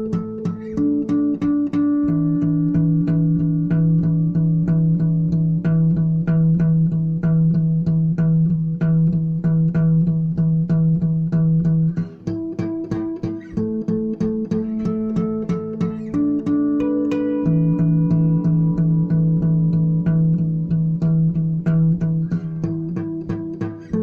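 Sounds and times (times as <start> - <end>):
plucked string music: 0.0 - 24.0.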